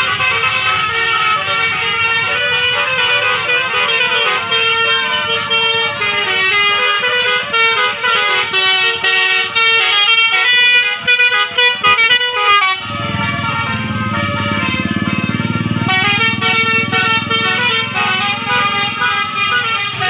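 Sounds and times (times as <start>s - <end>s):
bus air horn melody: 0.0s - 20.0s
vehicle engine running: 0.0s - 20.0s.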